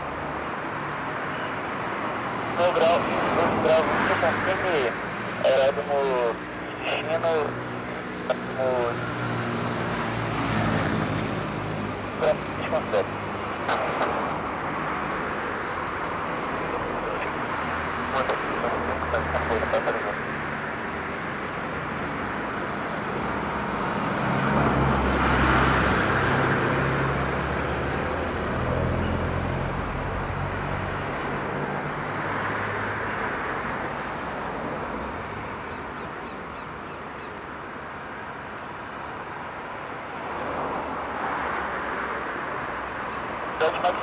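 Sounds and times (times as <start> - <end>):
high jet engine whine: 0.0 - 44.0
jet engines rumbling: 0.0 - 44.0.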